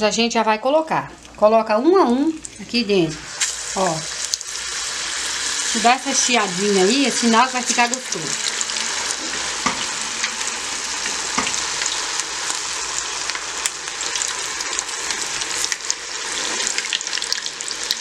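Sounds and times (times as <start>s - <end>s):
fish deep-frying in hot oil: 3.2s - 18.0s.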